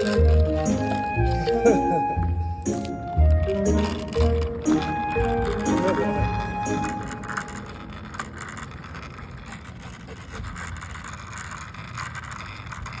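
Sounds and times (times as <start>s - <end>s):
longboard wheels rolling on asphalt: 0.0s - 13.0s
wheels scraping: 0.0s - 13.0s.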